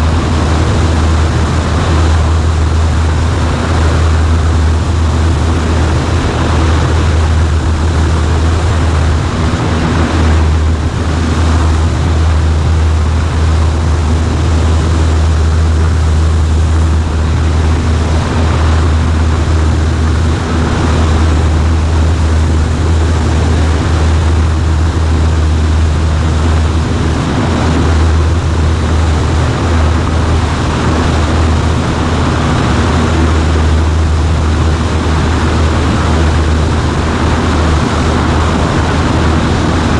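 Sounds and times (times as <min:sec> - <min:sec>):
airflow noise: 0:00.0 - 0:39.9
propeller plane engine droning: 0:00.0 - 0:39.9.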